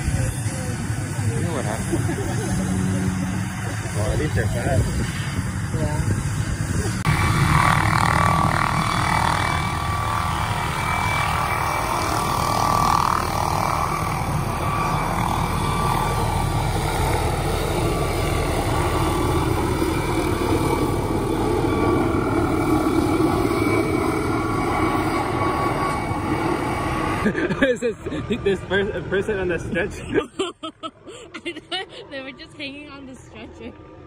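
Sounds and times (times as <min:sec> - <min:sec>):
helicopter rotor chopping: 0:00.0 - 0:34.0
turbine whine: 0:00.0 - 0:34.0.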